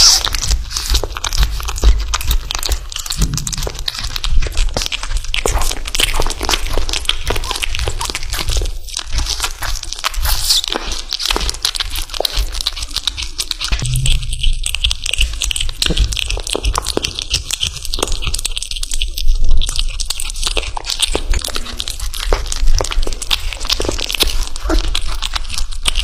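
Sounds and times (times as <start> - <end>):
kitten chewing raw chicken: 0.0 - 26.0.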